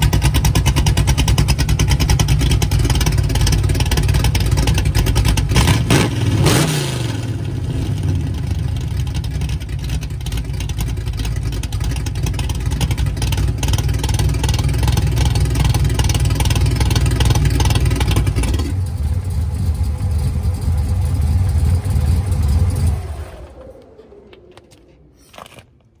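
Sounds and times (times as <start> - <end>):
vee eight engine running: 0.0 - 25.2.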